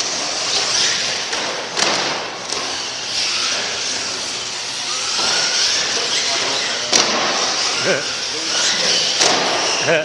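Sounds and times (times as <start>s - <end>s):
monster truck show din: 0.0s - 10.0s.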